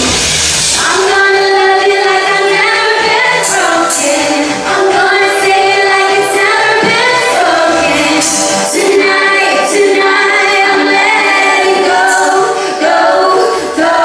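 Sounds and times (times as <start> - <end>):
instrumental backing: 0.0 - 14.0.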